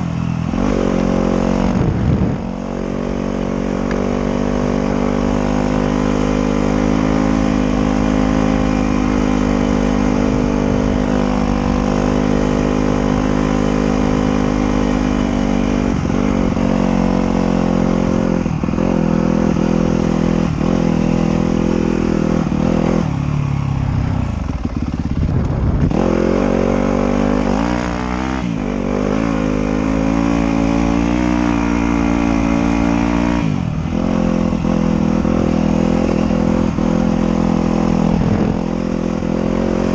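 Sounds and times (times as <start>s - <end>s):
trail motorcycle engine running hard: 0.0s - 39.9s.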